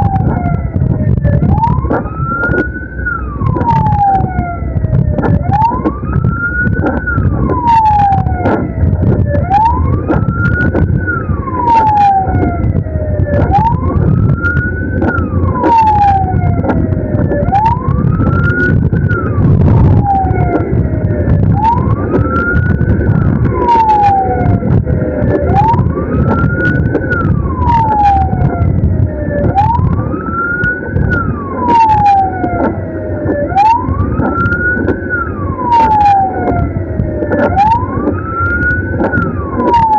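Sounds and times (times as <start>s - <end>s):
ambulance siren wailing: 0.0s - 39.9s
engine and road noise: 0.0s - 39.9s.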